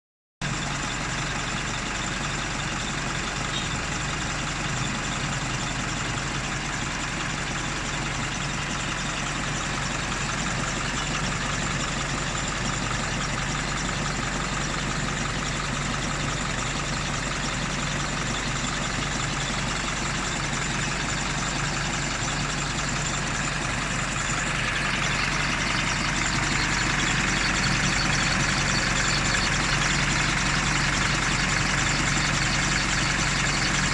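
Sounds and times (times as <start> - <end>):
diesel engine idling: 0.4 - 33.9.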